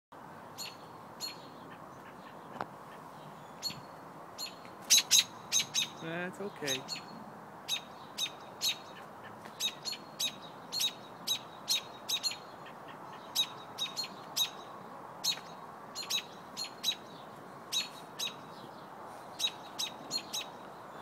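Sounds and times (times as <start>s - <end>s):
robin alarm chirps: 0.6s - 1.5s, 3.4s - 9.0s, 9.6s - 18.6s, 19.3s - 20.6s.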